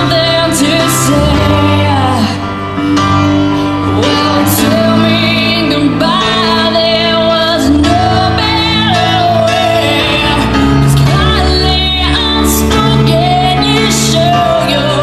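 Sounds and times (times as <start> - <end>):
woman singing: 0.0 - 2.5, 3.8 - 15.0
instrumental backing: 0.0 - 15.0.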